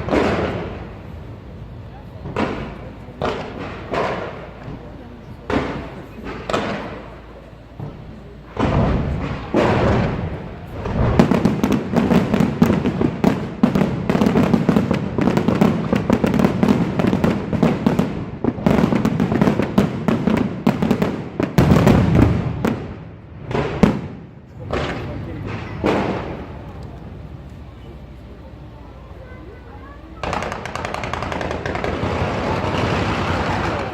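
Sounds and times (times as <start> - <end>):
continuous rumble: 0.0 - 33.9
fireworks banging and crackling: 0.0 - 33.9.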